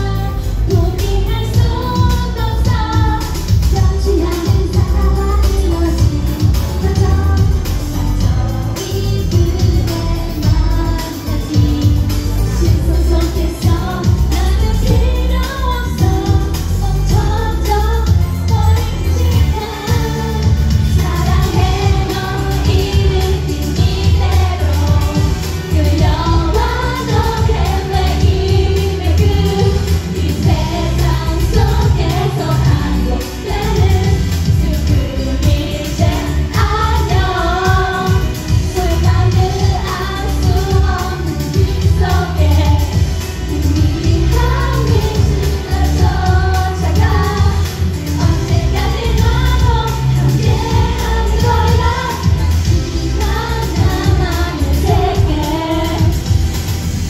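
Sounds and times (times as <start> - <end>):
women singing into microphones: 0.0 - 56.6
pop music with heavy bass beat: 0.0 - 57.0.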